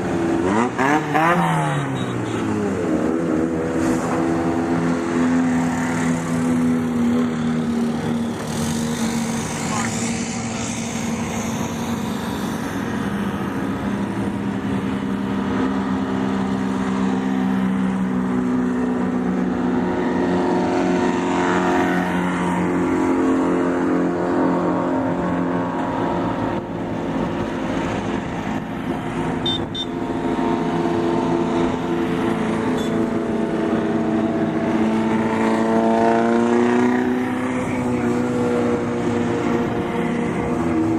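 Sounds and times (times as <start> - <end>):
off-road vehicle engines passing: 0.0 - 40.9.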